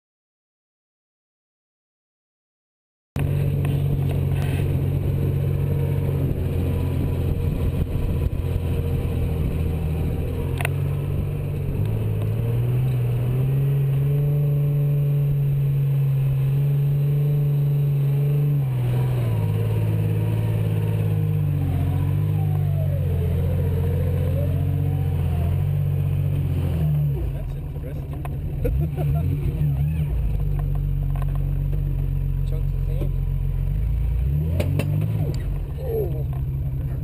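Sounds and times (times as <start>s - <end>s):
car engine running under load: 3.2s - 37.0s.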